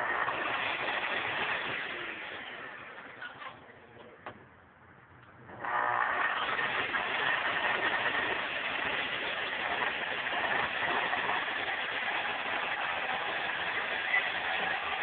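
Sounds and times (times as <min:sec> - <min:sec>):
track saw cutting: 0:00.0 - 0:03.7, 0:05.5 - 0:15.0.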